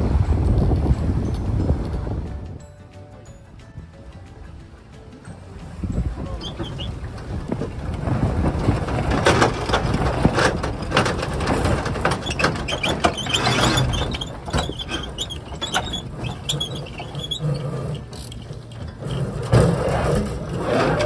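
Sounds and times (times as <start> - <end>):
wind buffeting microphone: 0.0 - 2.7, 3.6 - 21.0
boat deck gear rattling: 3.5 - 21.0.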